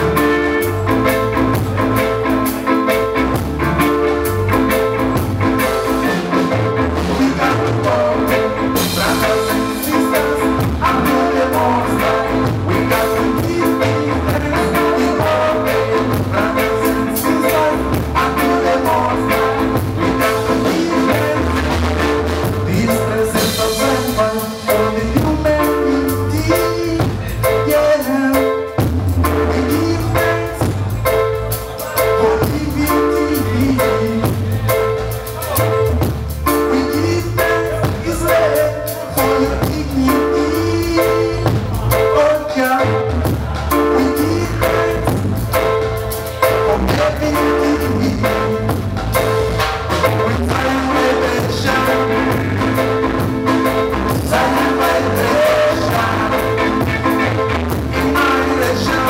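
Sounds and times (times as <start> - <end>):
live band playing: 0.0 - 59.0
person singing: 0.0 - 59.0.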